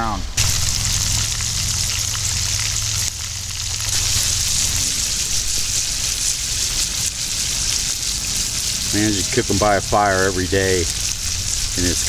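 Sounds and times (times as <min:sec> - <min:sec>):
fish deep-frying in hot oil: 0:00.4 - 0:12.0.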